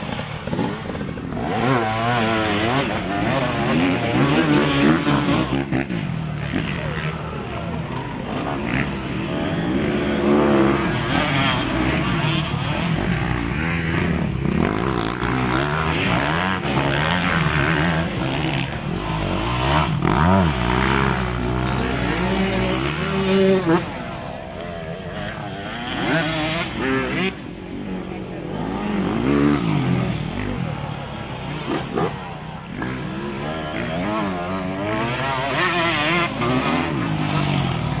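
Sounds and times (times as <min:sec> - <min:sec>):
motocross motorcycles revving: 0:00.0 - 0:38.0.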